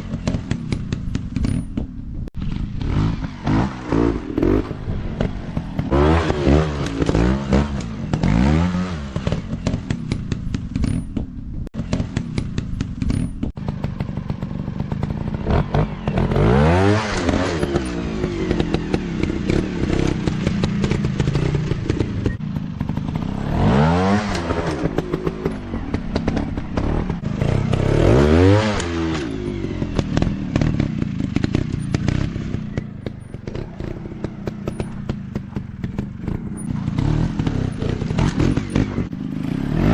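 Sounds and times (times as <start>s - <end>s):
dirt bike engines revving: 2.4s - 11.1s, 11.8s - 39.9s.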